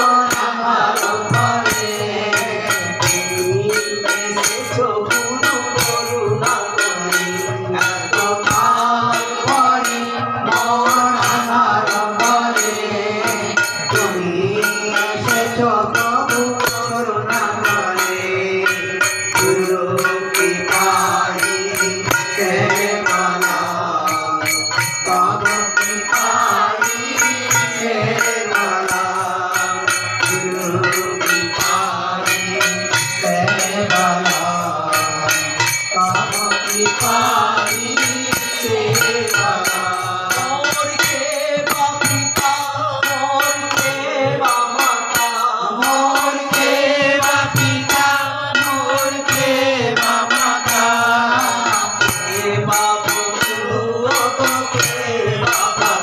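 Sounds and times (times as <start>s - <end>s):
group singing along: 0.0s - 56.0s
harmonium: 0.0s - 56.0s
man singing into a microphone: 0.0s - 56.0s
steady percussion beat: 0.0s - 56.0s.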